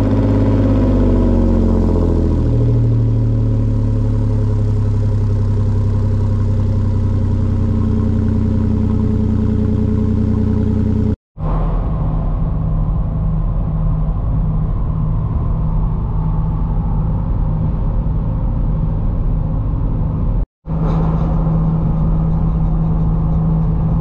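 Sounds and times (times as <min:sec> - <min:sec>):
car engine idling: 0:00.0 - 0:11.2, 0:11.9 - 0:24.0.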